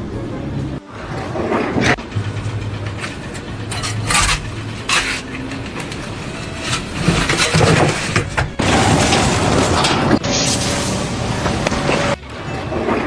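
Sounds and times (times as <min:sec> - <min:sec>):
engine running: 0:00.0 - 0:13.0
sharp knocks and clatters: 0:00.8 - 0:13.0.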